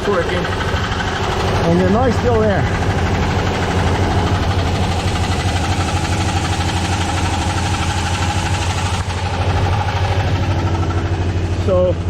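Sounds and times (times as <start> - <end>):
engine idling with knocking: 0.0 - 12.0.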